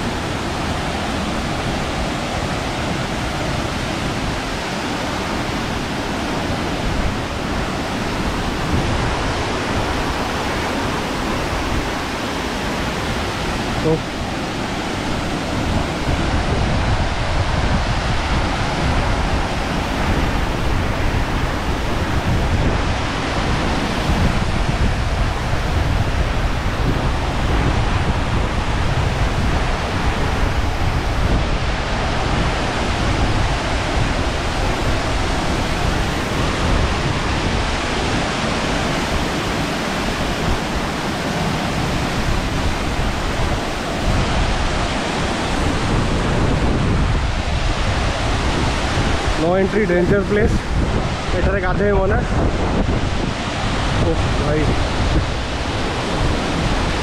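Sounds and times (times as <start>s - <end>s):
waterfall roaring: 0.0s - 57.0s
wind buffeting microphone: 0.0s - 57.0s.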